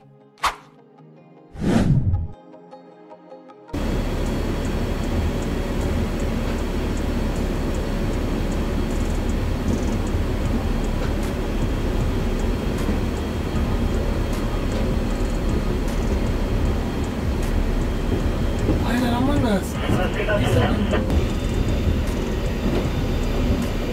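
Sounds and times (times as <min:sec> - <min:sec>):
train rumbling and rattling: 0:03.8 - 0:23.9.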